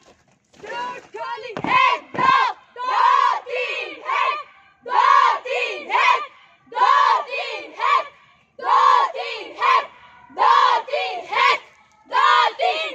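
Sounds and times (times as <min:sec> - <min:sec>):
girls shouting in unison: 0:00.7 - 0:12.9.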